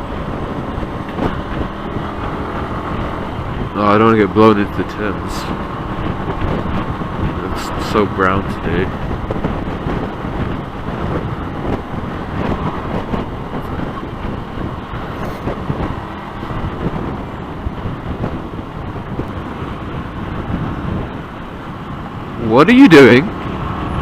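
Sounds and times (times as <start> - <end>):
road and traffic noise: 0.0 - 24.0
wind buffeting microphone: 0.0 - 24.0.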